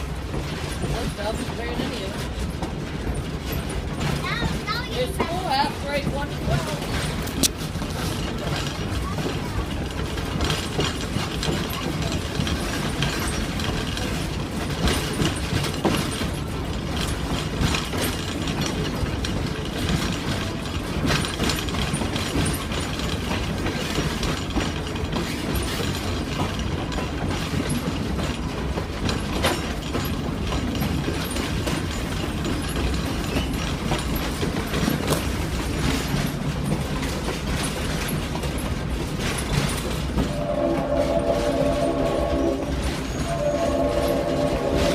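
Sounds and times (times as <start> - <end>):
train rumble and rattle: 0.0 - 44.9
wheel and coupling clanks: 0.0 - 44.9.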